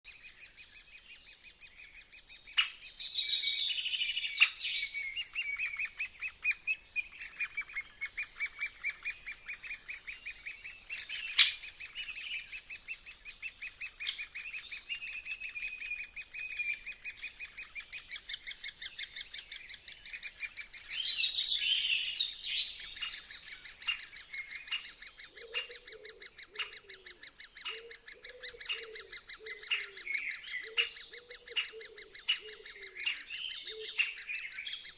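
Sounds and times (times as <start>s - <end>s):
lower-pitched bird call: 0.1s - 34.9s
sweeping bird calls: 0.1s - 34.9s
woodpeckers chattering: 0.1s - 34.9s.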